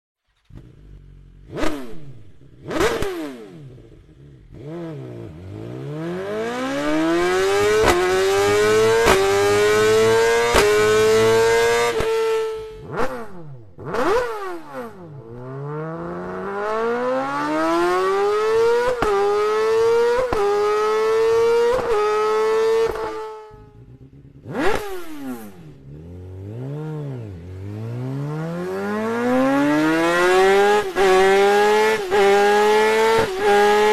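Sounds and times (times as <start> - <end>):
motorcycle engine revving and accelerating: 0.2 - 33.9.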